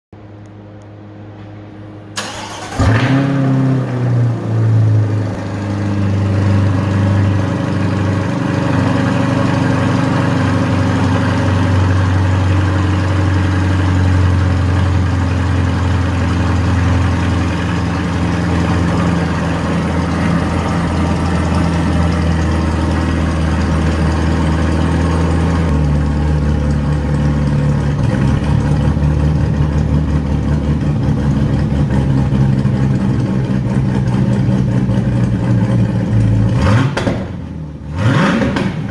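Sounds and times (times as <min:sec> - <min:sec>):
car engine idling loudly: 0:02.2 - 0:37.9.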